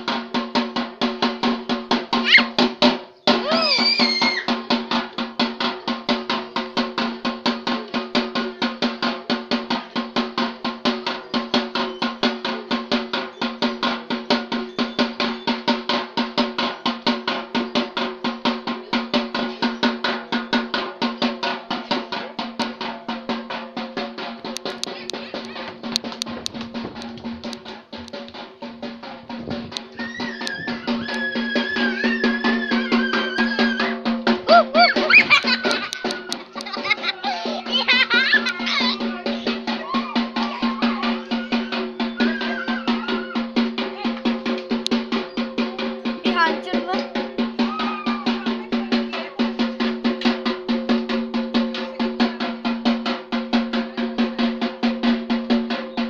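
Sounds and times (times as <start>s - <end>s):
drum beaten in quick rhythm: 0.0s - 56.0s.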